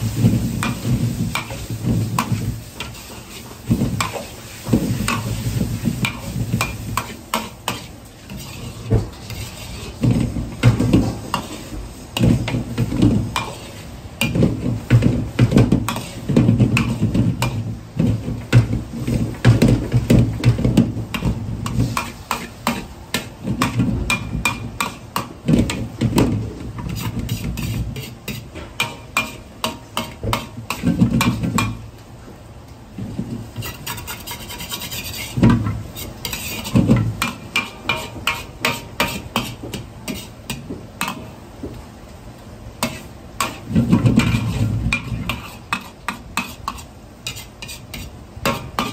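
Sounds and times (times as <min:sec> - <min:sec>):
metal ladle scraping wok: 0:00.0 - 0:31.8, 0:33.4 - 0:41.4, 0:42.7 - 0:48.9.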